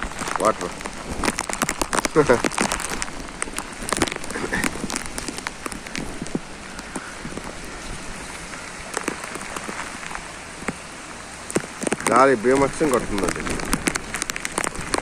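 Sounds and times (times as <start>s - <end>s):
heavy rain pouring: 0.0s - 15.0s
raindrops tapping on surface: 0.0s - 15.0s.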